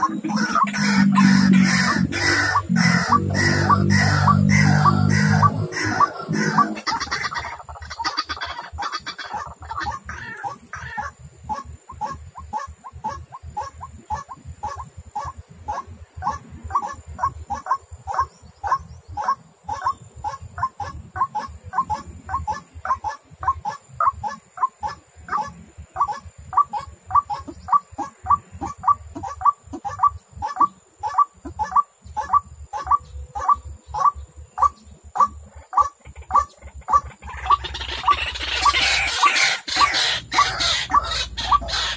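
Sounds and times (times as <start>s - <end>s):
waterhen calling: 0.0s - 41.9s.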